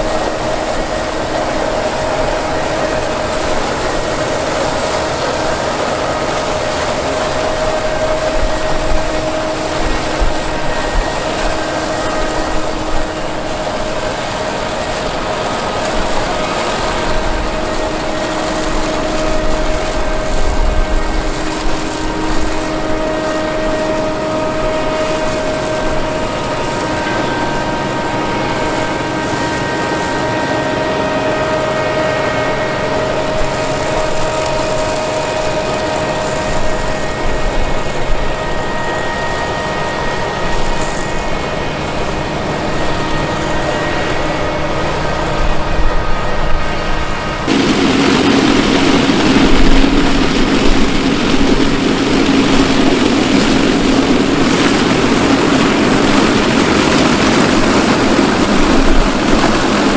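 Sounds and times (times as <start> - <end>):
harvester machine drone: 0.0 - 59.9
multi-pitch machine whine: 0.0 - 59.9.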